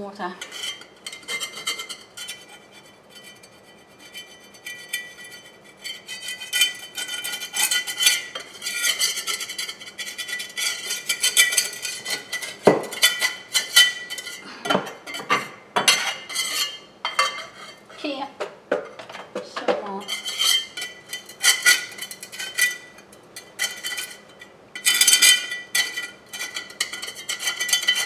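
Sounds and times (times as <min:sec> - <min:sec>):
hard objects clattering and scraping: 0:00.4 - 0:18.0, 0:18.8 - 0:28.0.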